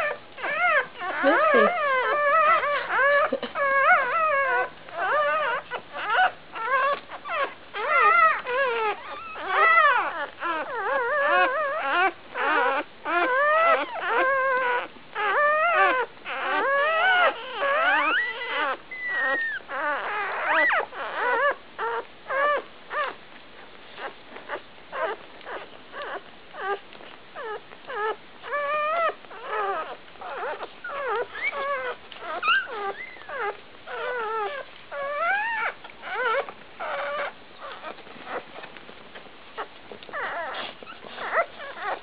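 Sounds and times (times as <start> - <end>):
puppies whimpering and squealing: 0.0 - 42.0.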